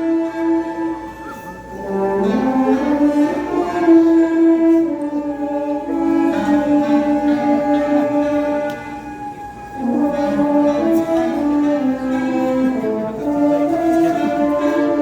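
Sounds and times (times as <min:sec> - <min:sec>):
orchestra playing sustained notes: 0:00.0 - 0:15.0.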